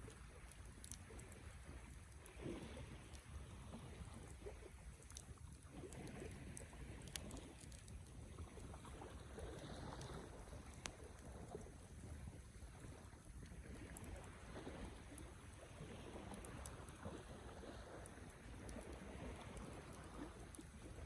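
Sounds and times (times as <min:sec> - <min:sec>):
campfire crackling and popping: 0:00.3 - 0:02.3, 0:03.9 - 0:21.0.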